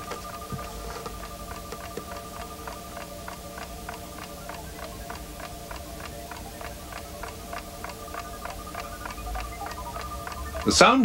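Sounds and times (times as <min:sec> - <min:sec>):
mechanical alarm clock ticking: 0:00.0 - 0:11.0.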